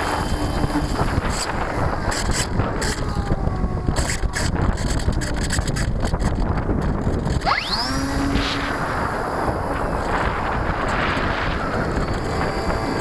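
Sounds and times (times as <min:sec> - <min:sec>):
electric motor whine: 0:00.0 - 0:05.9, 0:07.2 - 0:13.0
wind buffeting microphone: 0:00.0 - 0:13.0.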